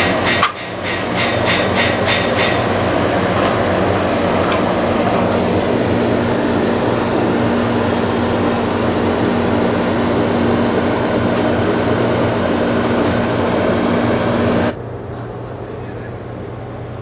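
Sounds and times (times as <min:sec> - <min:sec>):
ship machinery rushing noise: 0:00.0 - 0:15.5.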